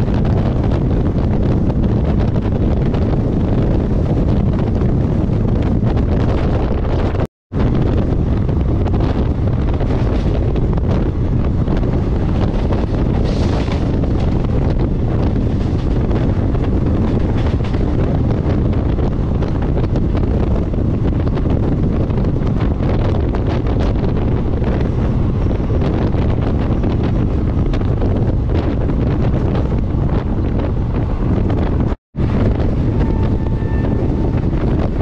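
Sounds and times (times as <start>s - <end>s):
train wheels rumbling on track: 0.0s - 35.0s
wind buffeting microphone: 0.0s - 35.0s.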